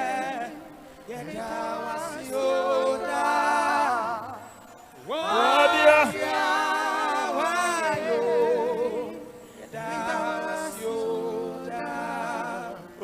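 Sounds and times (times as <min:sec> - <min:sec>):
people singing worship song: 0:00.0 - 0:13.0.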